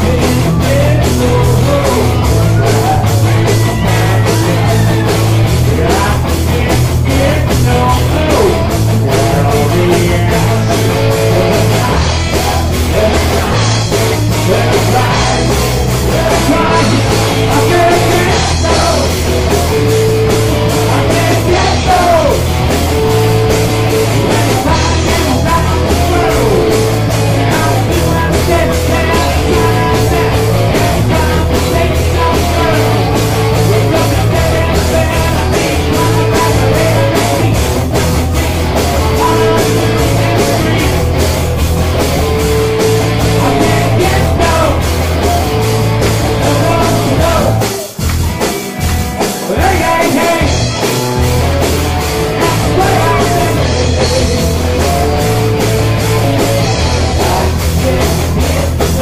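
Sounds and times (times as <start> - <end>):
rock music with singing: 0.0 - 59.0.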